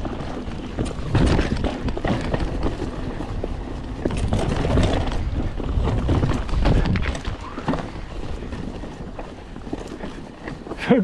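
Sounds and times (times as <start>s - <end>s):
bike rattling over roots: 0.0s - 11.0s
bike tyres on dirt: 0.0s - 11.0s.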